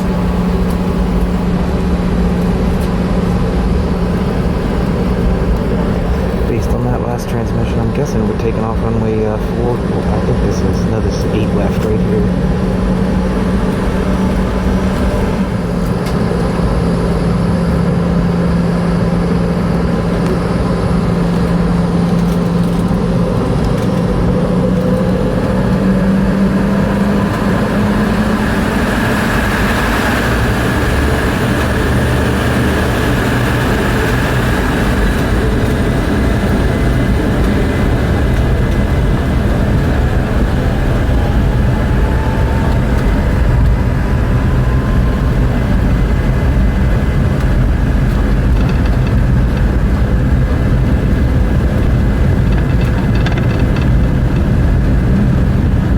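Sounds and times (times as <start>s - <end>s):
jet engines humming in cabin: 0.0s - 55.9s.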